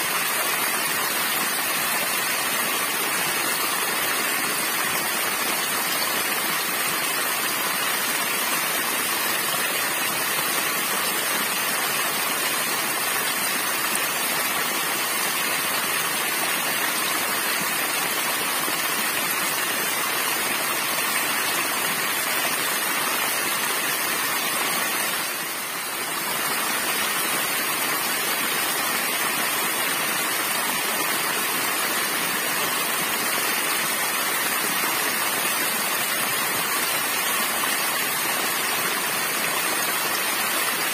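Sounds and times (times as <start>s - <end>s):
small waterfall splashing onto rocks: 0.0s - 40.9s.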